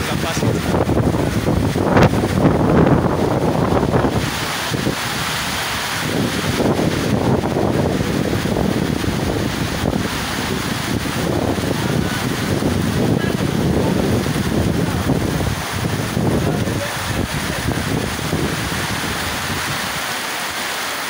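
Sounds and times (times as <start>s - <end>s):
wind buffeting microphone: 0.0s - 20.2s
rain falling: 0.0s - 21.0s.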